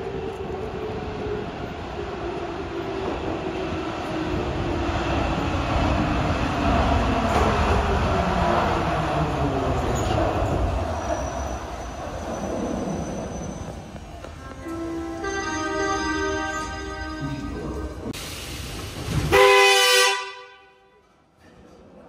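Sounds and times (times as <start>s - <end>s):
metro train whine: 0.0s - 22.0s.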